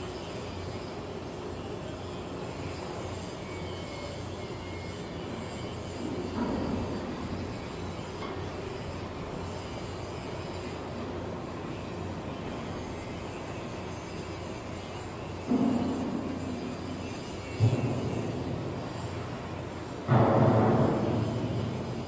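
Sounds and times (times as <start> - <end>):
low machinery hum: 0.0 - 22.0.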